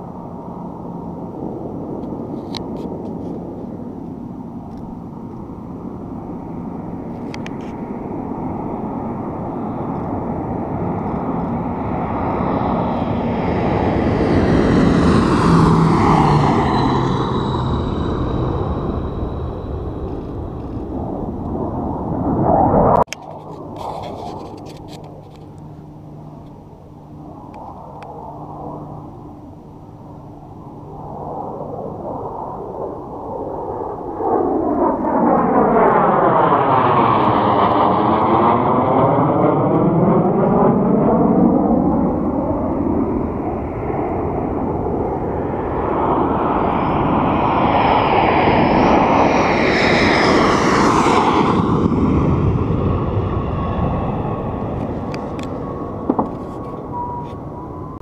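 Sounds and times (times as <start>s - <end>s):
high turbine whine: 0.0s - 58.0s
military jet aircraft passing: 0.0s - 58.0s.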